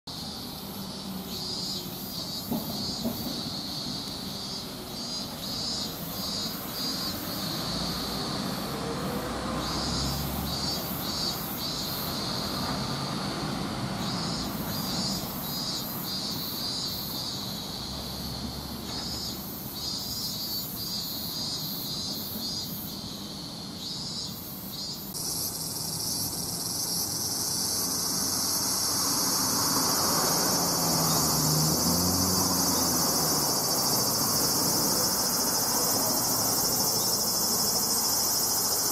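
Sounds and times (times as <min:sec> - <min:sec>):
insects chirping: 0:00.1 - 0:38.9.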